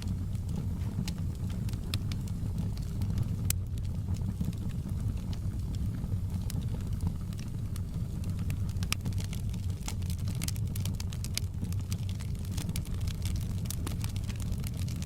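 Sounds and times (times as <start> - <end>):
fire crackling and popping: 0.0 - 15.0
wood fire flames rumbling: 0.0 - 15.0.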